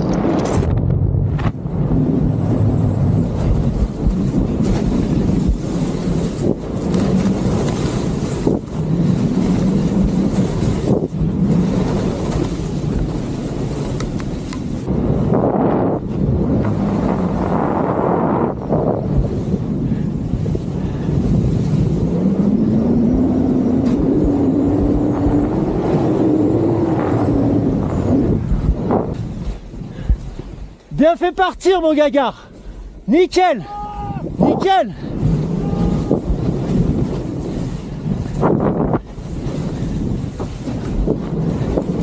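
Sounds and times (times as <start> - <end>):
wind rushing over microphone: 0.0 - 42.0
skis scraping through snow: 3.1 - 33.4, 34.4 - 42.0.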